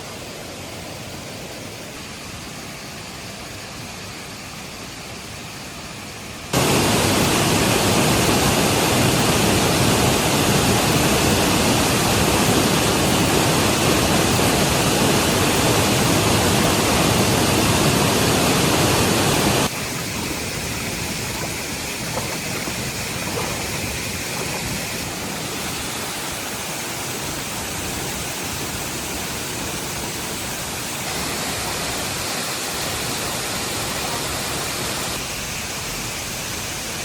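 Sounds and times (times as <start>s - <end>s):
steady rushing noise: 6.1s - 37.0s.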